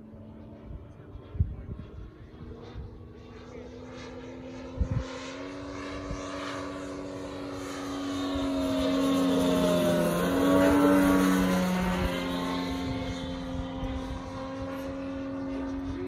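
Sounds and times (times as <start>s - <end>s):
model plane engine and propeller: 0.0s - 16.0s.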